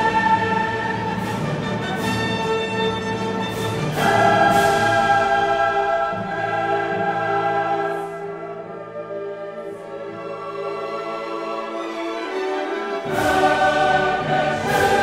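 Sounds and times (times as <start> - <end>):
choir singing sustained chords: 0.0 - 1.6, 3.8 - 15.0
orchestra: 0.0 - 15.0.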